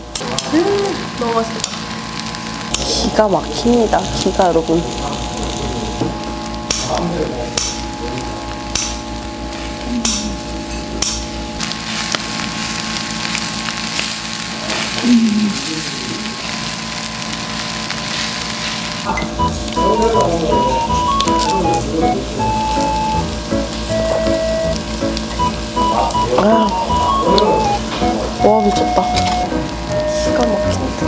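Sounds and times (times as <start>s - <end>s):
food sizzling in a hot pan: 0.0s - 31.0s.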